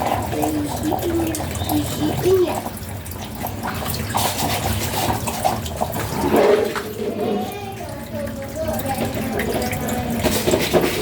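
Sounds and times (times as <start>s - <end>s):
water running and splashing: 0.0s - 11.0s.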